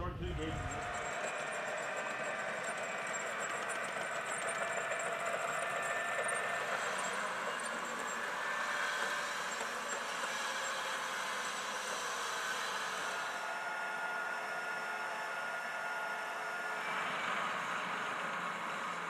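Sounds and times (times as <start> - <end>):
tank engine: 0.2 - 19.0.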